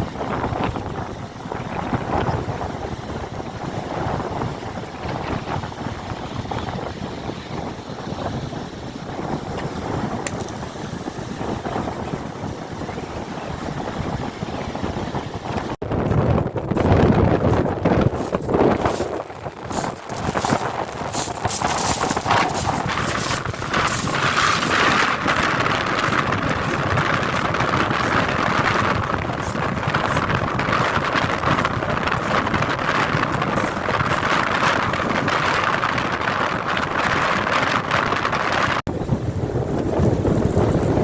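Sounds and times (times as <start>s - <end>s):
strong wind buffeting microphone: 0.0s - 41.0s.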